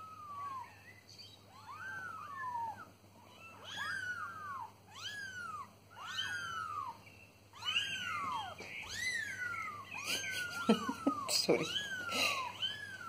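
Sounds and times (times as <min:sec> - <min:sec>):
kittens mewing: 0:00.0 - 0:13.0.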